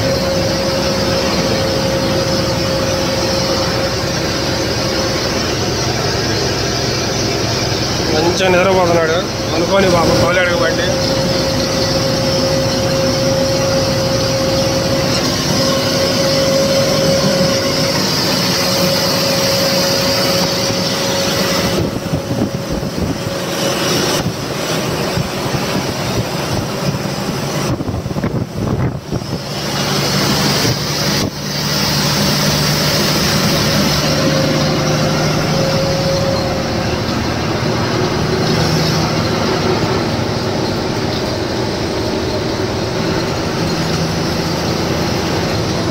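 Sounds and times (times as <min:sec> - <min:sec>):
engine whine: 0:00.0 - 0:45.9
lorry engine and road noise: 0:00.0 - 0:45.9.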